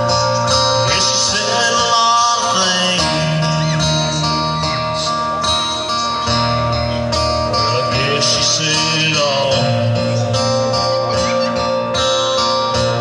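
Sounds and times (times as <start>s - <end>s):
live country-rock band: 0.0s - 13.0s
sliding lead guitar note: 0.0s - 13.0s.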